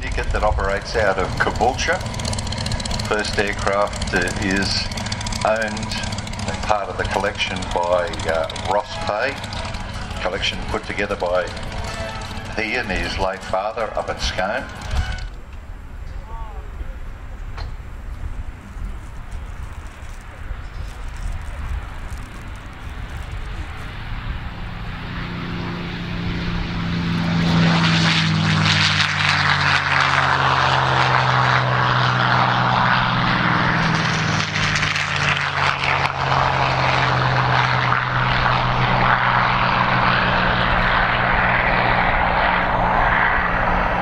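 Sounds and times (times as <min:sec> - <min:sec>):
propeller plane engine roaring: 0:00.0 - 0:44.0.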